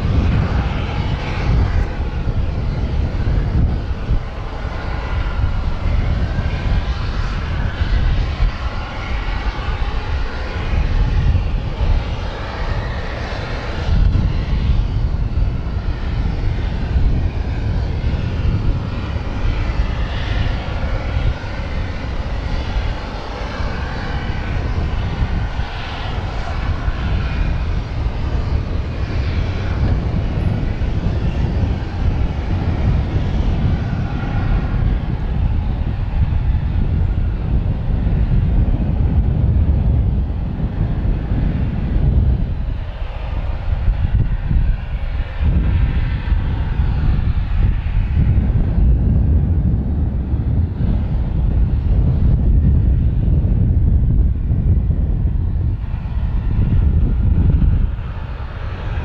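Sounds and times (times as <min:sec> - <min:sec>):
aircraft engine rumbling: 0:00.0 - 0:59.0.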